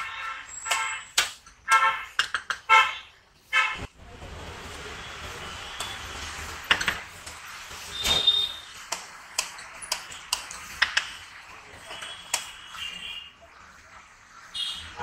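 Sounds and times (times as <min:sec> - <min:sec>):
street background noise: 0:00.0 - 0:15.0.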